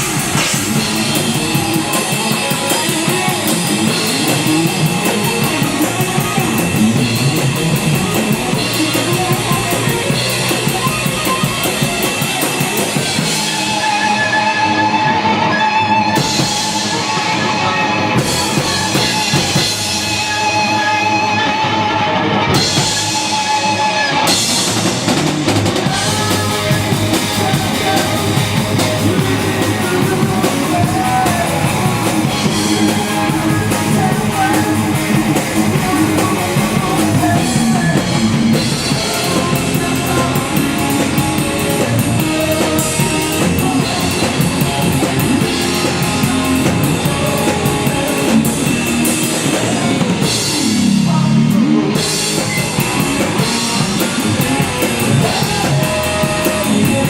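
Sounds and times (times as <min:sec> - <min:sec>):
drum kit: 0:00.0 - 0:57.0
rock band playing: 0:00.0 - 0:57.0.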